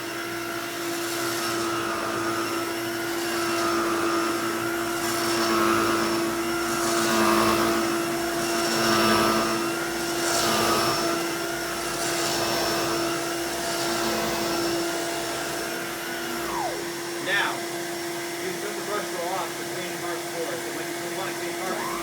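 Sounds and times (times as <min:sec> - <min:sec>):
upright vacuum running: 0:00.0 - 0:22.0.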